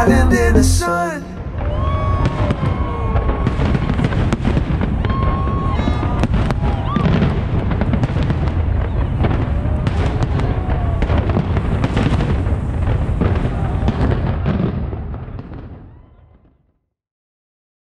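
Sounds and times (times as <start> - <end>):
fireworks cracking and booming: 1.4 - 16.5.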